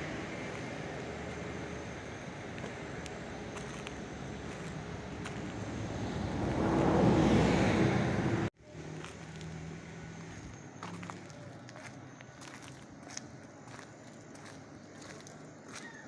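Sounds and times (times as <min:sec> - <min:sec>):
motor vehicle passing: 0:00.0 - 0:15.3.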